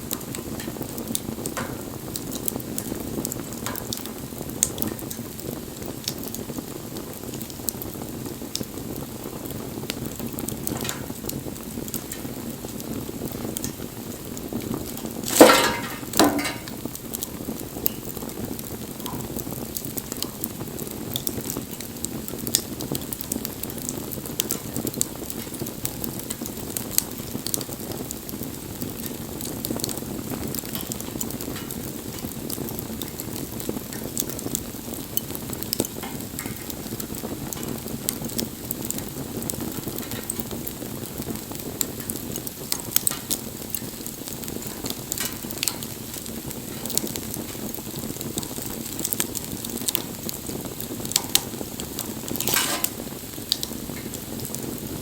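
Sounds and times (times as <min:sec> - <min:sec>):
campfire flames burning: 0:00.0 - 0:55.0
fire crackles and pops: 0:00.0 - 0:55.0.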